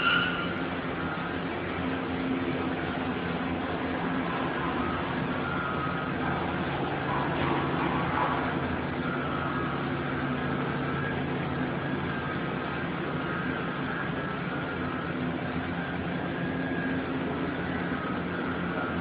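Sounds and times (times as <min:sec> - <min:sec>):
factory machinery drone: 0:00.0 - 0:19.0.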